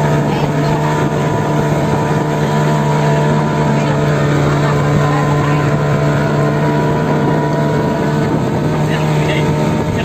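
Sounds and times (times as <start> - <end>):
motorboat engine droning: 0.0 - 10.0.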